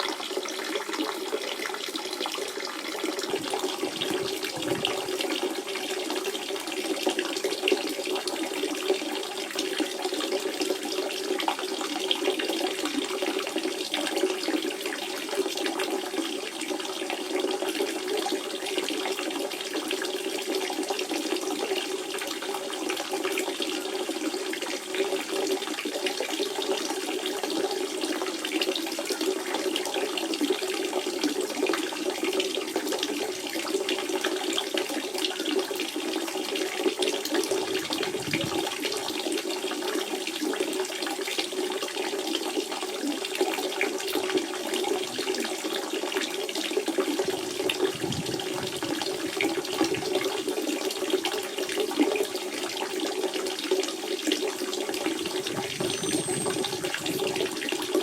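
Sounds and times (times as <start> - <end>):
spring water burbling and splashing: 0.0 - 21.3, 25.0 - 58.0.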